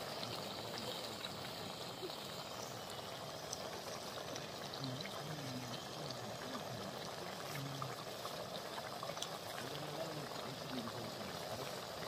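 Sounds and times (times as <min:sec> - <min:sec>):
pot bubbling and hissing: 0:00.0 - 0:12.0
faint voices: 0:00.2 - 0:12.0.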